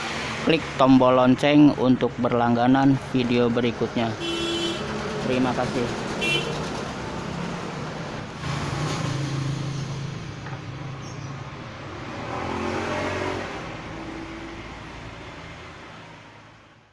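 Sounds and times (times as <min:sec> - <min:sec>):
vehicles passing on road: 0:00.0 - 0:16.9.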